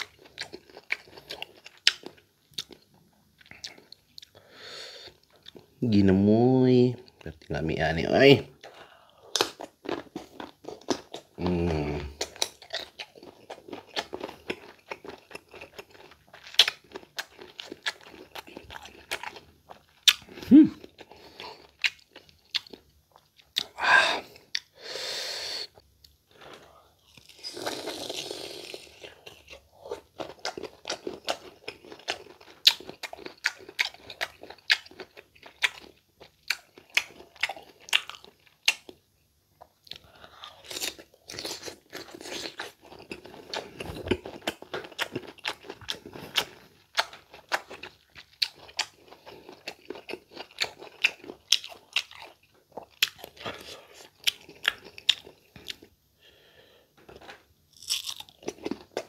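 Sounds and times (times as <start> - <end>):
crunchy chewing of mango: 0.0 - 4.4, 8.6 - 24.8, 26.3 - 39.0, 39.6 - 55.9, 57.1 - 59.0.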